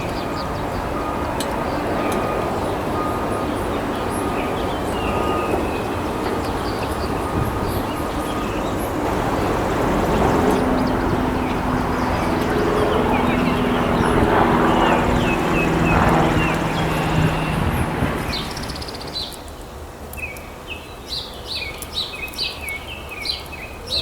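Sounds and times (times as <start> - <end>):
droning hum of held tones: 0.0 - 19.4
loud steady rumbling: 0.0 - 19.4.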